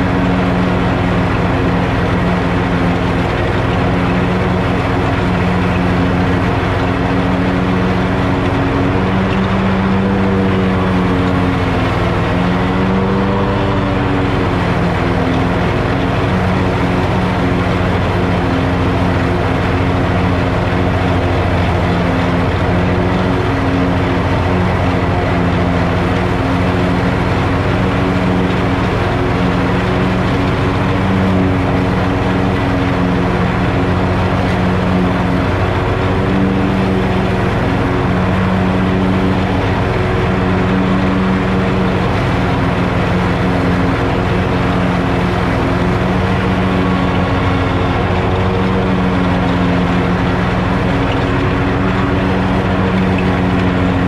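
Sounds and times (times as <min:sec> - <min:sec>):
mower blades cutting grass: 0:00.0 - 0:54.0
riding mower engine drone: 0:00.0 - 0:54.0.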